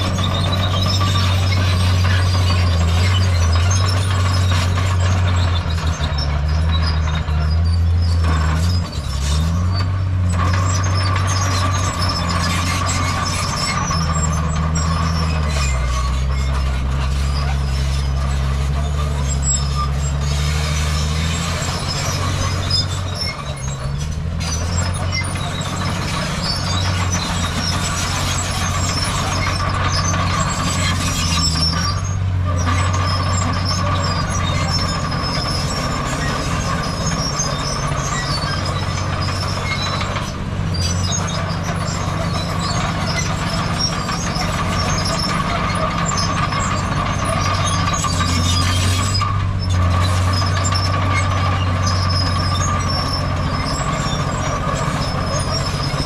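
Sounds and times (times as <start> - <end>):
heavy diesel engines under load: 0.0 - 56.0.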